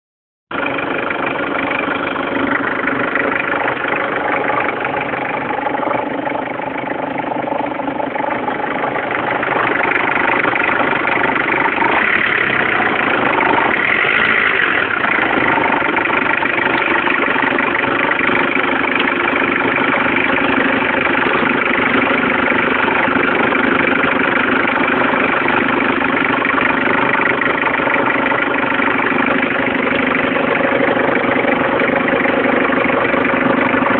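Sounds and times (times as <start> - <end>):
car engine idling: 0.5 - 33.9.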